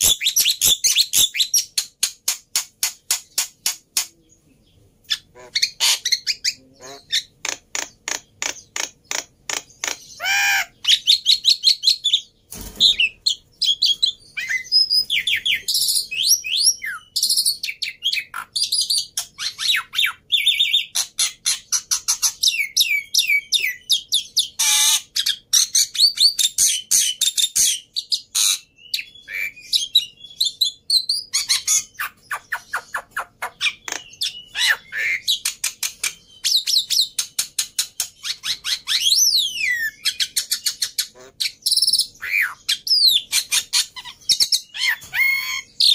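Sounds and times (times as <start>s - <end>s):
starling singing: 5.0s - 45.9s.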